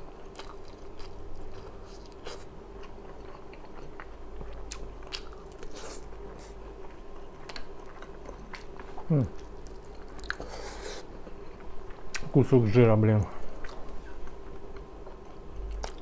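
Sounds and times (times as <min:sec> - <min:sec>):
faint steady hum: 0:00.0 - 0:16.0
person chewing food: 0:00.2 - 0:12.3, 0:13.4 - 0:16.0.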